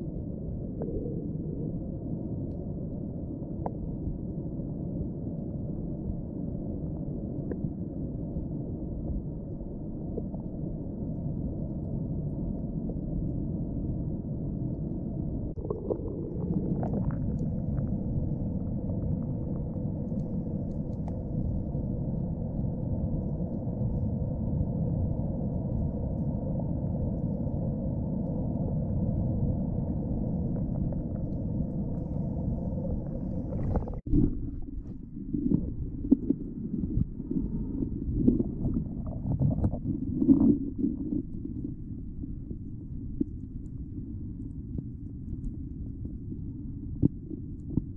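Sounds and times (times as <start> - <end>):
underwater rumble of water: 0.0 - 47.9.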